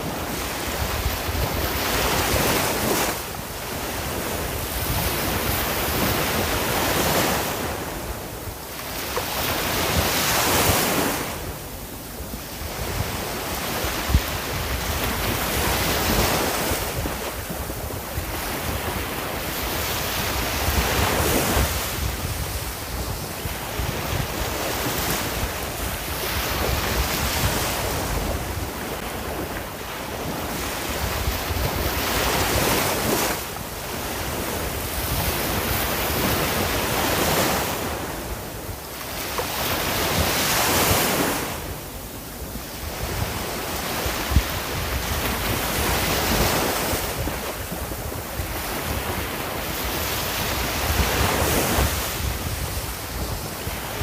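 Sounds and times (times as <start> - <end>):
ocean waves breaking on shore: 0.0 - 54.0
wind rumble on microphone: 0.0 - 54.0.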